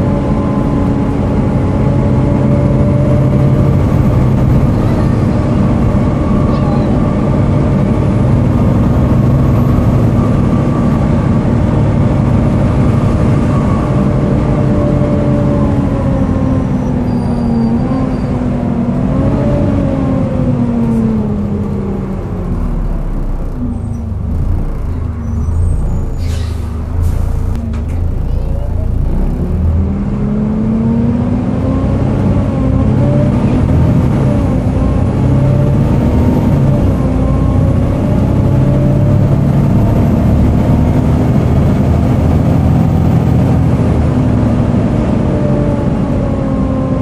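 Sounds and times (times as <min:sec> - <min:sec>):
diesel bus engine running: 0:00.0 - 0:47.0.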